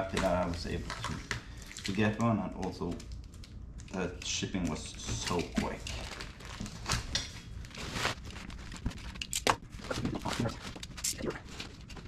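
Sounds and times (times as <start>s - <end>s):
plastic wrap rustling: 0.0s - 12.0s.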